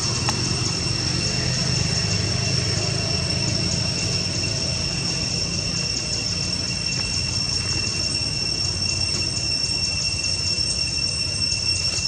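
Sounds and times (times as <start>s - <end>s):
pulsing insect chorus: 0.0s - 12.0s.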